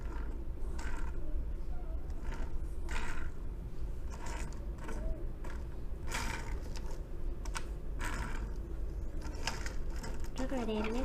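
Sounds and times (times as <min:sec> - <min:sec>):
toy car wheels whirring: 0:00.0 - 0:01.3, 0:02.0 - 0:03.4, 0:04.0 - 0:11.0.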